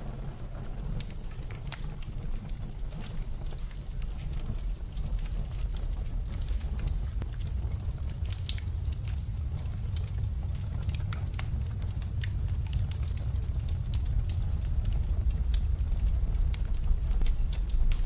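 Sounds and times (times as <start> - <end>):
storm wind rumbling: 0.0 - 18.0
wood fire crackling and popping: 0.0 - 18.0.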